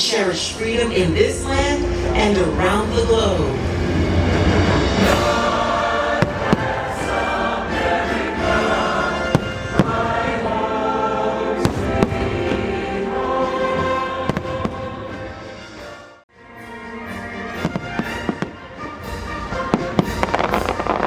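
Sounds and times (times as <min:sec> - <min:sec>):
choir singing sustained chords: 0:00.0 - 0:21.0
patriotic show music: 0:00.0 - 0:21.0
fireworks banging: 0:00.3 - 0:11.0, 0:11.6 - 0:15.6, 0:17.6 - 0:21.0.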